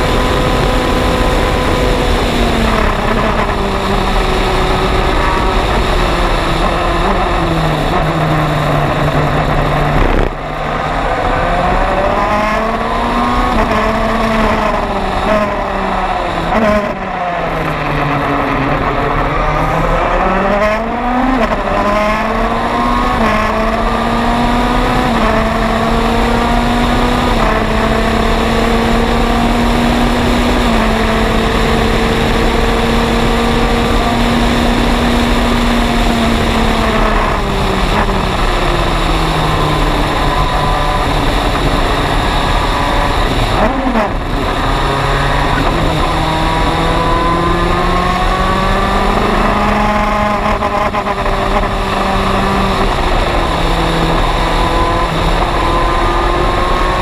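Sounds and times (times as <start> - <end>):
racing car engine: 0.0 - 57.0
wind rush: 0.0 - 57.0.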